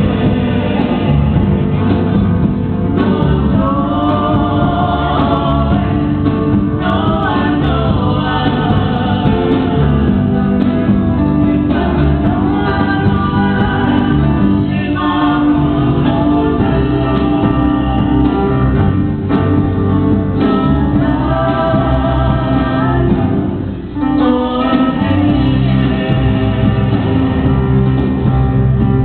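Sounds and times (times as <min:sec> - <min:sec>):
electric keyboard: 0:00.0 - 0:29.0
voices singing together: 0:00.0 - 0:29.0.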